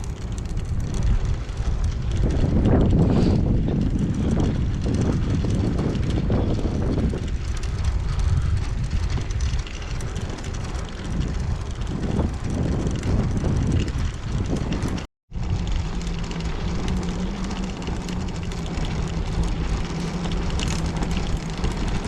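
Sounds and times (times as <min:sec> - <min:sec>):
road and tyre noise: 0:00.0 - 0:22.0
wind buffeting microphone: 0:00.0 - 0:22.0.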